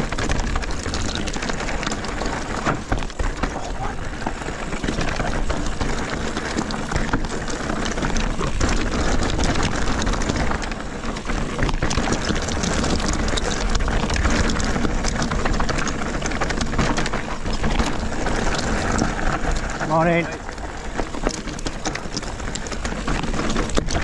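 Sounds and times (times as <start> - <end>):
bike rattling over bumps: 0.0 - 24.0
bike tyres crunching on gravel: 0.0 - 24.0.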